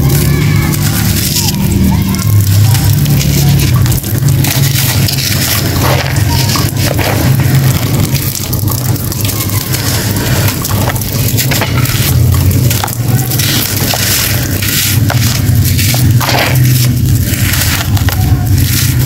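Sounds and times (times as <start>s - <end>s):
hands crushing sand clumps: 0.0s - 19.0s.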